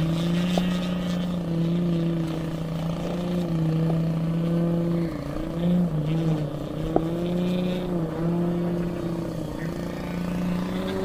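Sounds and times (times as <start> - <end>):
model plane propeller drone: 0.0 - 11.0.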